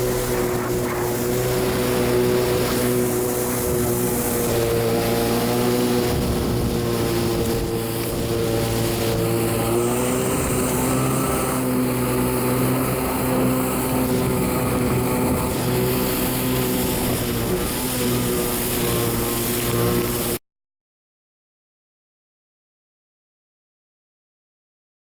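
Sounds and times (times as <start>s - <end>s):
jet ski engine running: 0.0s - 20.4s.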